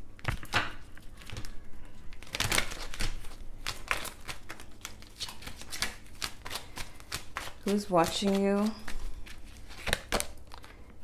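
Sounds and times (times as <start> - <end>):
cards being shuffled: 0.2 - 10.8.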